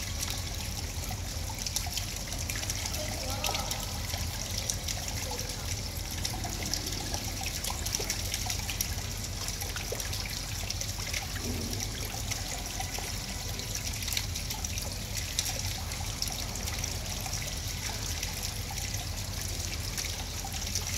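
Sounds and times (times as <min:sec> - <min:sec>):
water trickling into a pond: 0:00.0 - 0:20.9.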